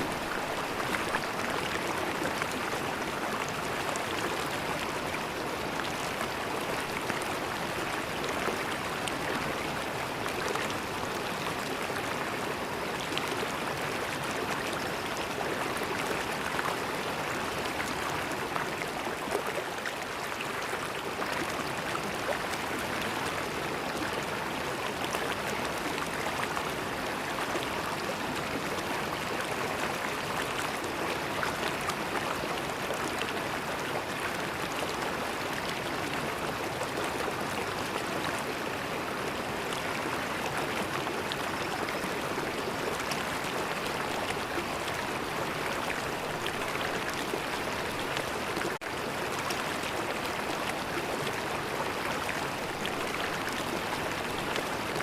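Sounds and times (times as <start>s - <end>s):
river water flowing and gurgling: 0.0s - 55.0s.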